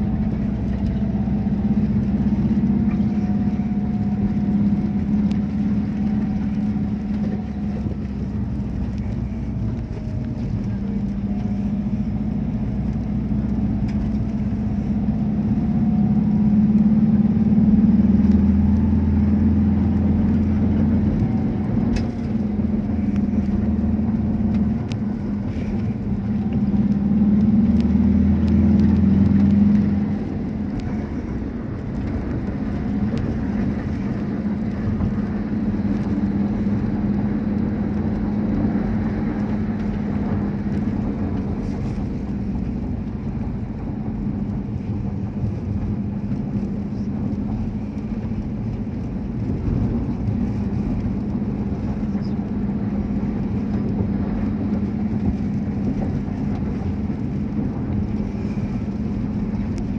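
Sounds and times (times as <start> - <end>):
car engine and tyre drone: 0.0 - 59.9.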